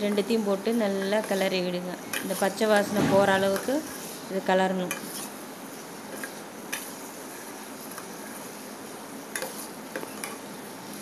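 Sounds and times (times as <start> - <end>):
vegetables sizzling in pan: 0.0 - 11.0.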